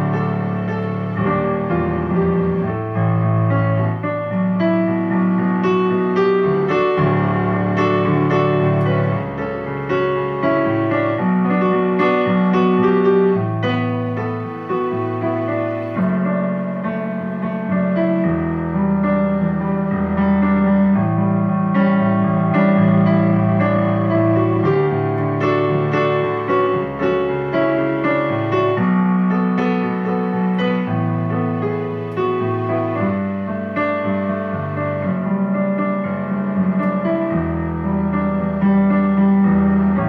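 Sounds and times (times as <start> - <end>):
slow digital piano piece: 0.0 - 40.0.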